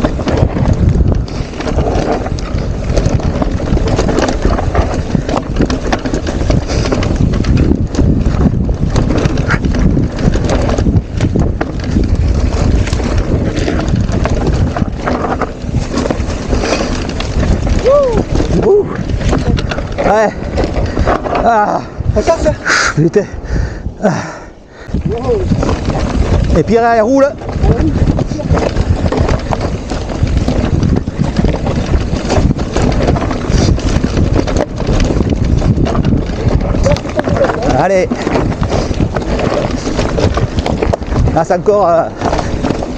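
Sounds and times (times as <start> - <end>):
mountain bike rattling over rocks: 0.0 - 42.9
wind on microphone: 0.0 - 42.9.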